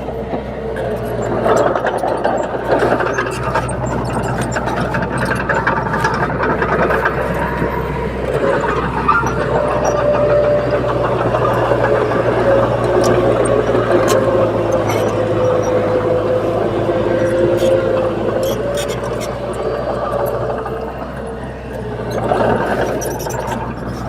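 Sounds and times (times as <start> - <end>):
bulldozer diesel engine running: 0.0 - 24.0
clicks and clanks: 0.2 - 24.0.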